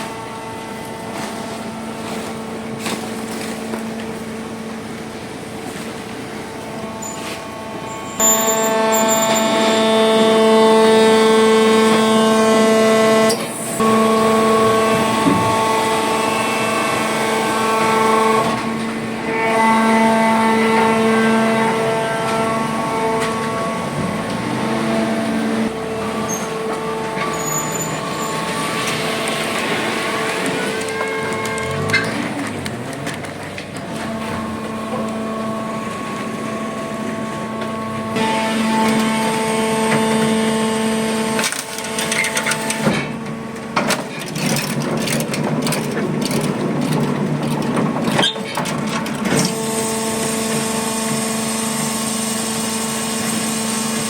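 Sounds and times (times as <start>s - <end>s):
machine humming: 0.0s - 43.8s, 48.8s - 54.0s.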